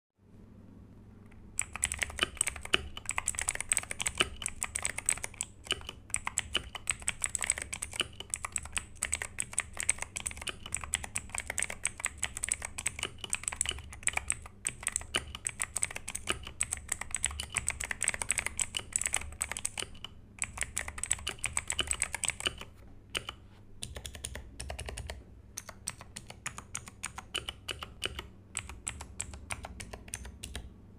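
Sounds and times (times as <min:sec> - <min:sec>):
typing on mechanical keyboard: 0:01.3 - 0:30.7.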